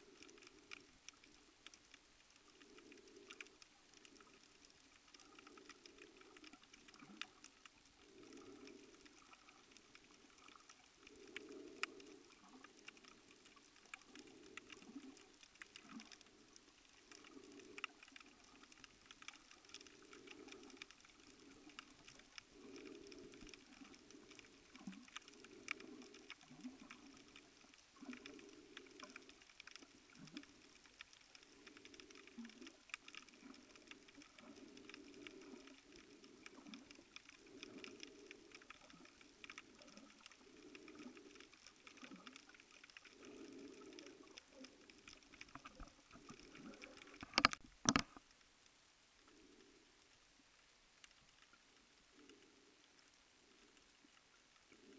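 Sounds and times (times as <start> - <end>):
underwater crackle of clicks: 0.0 - 54.9.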